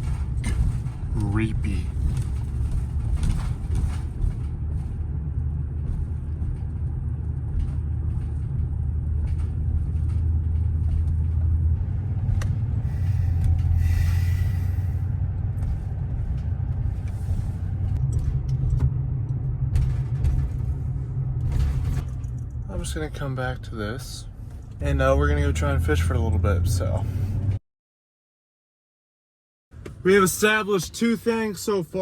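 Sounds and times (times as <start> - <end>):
pickup truck engine: 0.0 - 27.6
road rumble inside cab: 0.0 - 27.6, 29.7 - 32.0.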